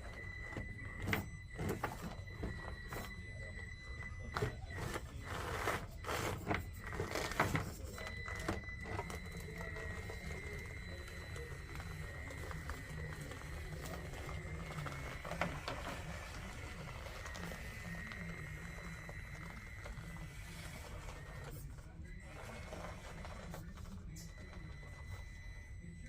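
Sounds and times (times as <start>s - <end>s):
small electric motor whining: 0.0s - 25.6s.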